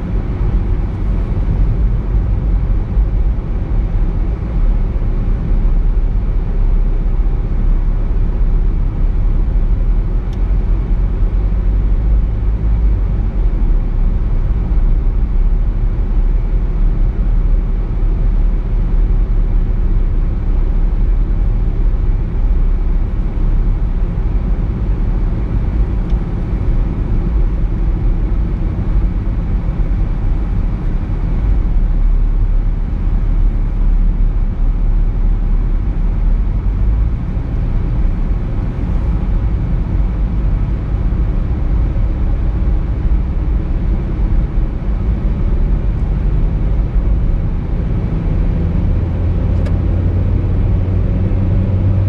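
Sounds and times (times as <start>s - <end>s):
car engine rumble: 0.0s - 52.0s.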